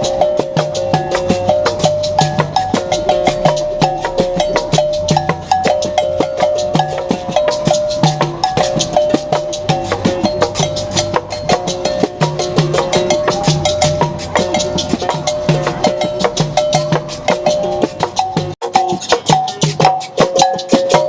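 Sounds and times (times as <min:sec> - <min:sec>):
berimbau playing: 0:00.0 - 0:21.0
drum beating: 0:00.0 - 0:21.0.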